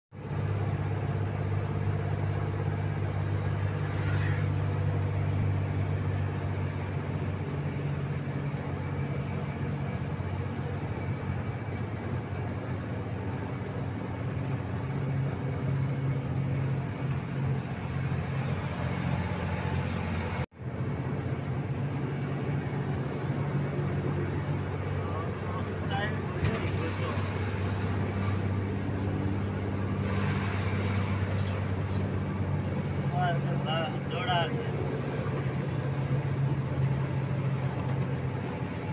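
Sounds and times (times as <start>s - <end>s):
road noise: 0.1s - 38.9s
truck diesel engine droning: 0.2s - 38.9s.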